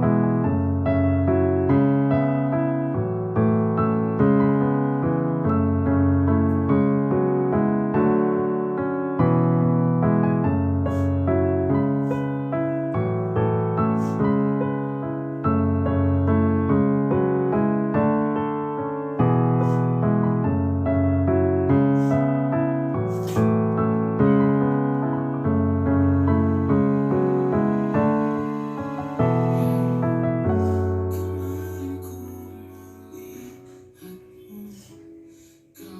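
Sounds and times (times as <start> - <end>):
slow piano music: 0.0 - 35.9.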